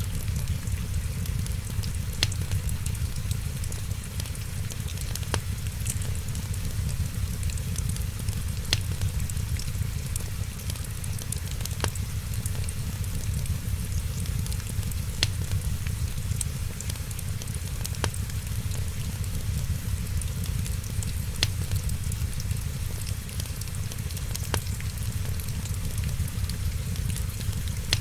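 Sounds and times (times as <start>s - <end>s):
steady low rumble: 0.0s - 28.0s
wood fire crackling: 0.0s - 28.0s.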